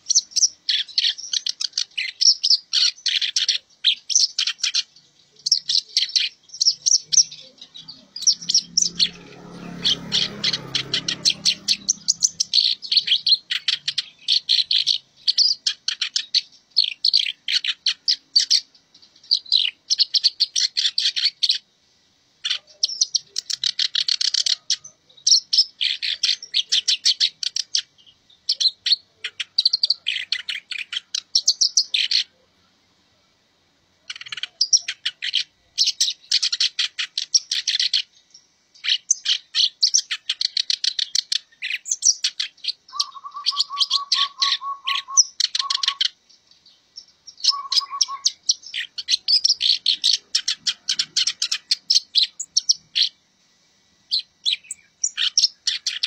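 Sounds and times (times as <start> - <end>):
warbler singing scratchy chatter: 0.0 - 21.8, 22.4 - 32.6, 33.9 - 56.0.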